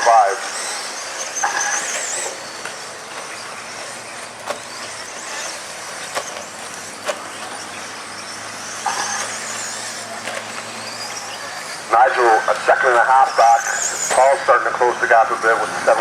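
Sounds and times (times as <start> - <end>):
toy truck motors whining: 0.0 - 16.0.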